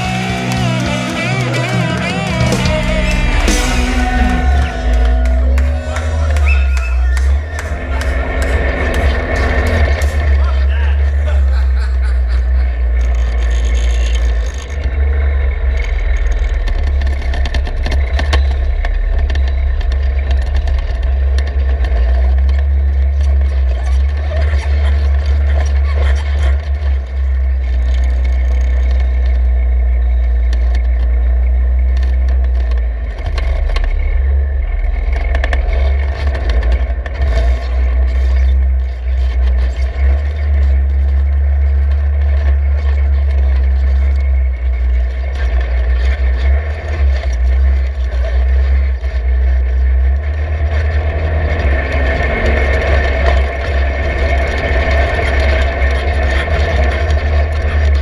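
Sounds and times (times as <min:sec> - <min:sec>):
engine drone: 0:00.0 - 0:58.0
gravel rattling and scraping: 0:00.0 - 0:58.0
heavy low rumble: 0:00.0 - 0:58.0.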